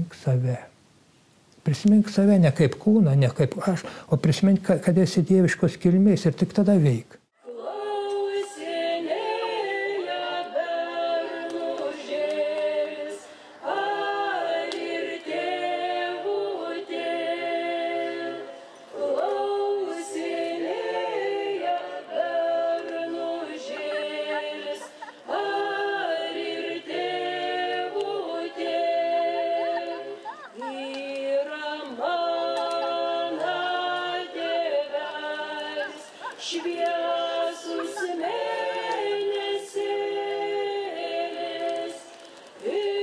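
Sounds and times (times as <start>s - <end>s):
group singing unaccompanied: 7.4s - 43.0s.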